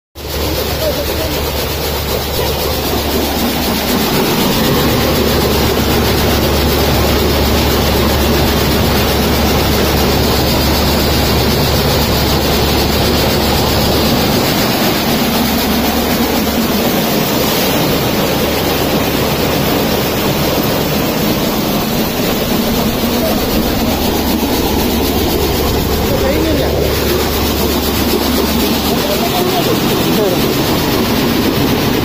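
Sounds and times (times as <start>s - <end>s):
low hum: 0.2s - 32.0s.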